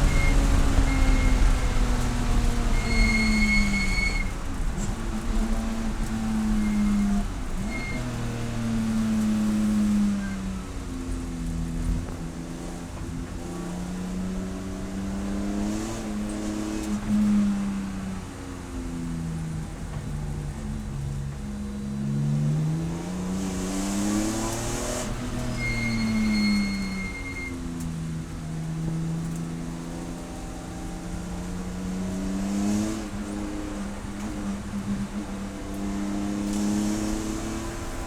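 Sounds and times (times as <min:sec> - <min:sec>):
race car engine accelerating: 0:00.0 - 0:38.0.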